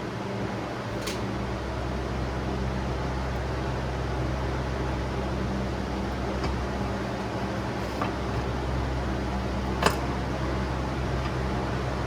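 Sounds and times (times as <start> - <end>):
fan-like machine hum: 0.0 - 12.0.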